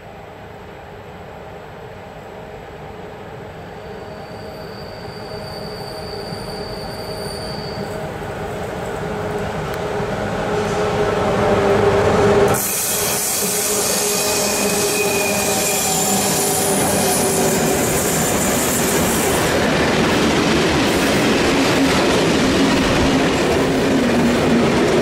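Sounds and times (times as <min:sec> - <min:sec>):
train passing hissing rush: 0:00.0 - 0:25.0.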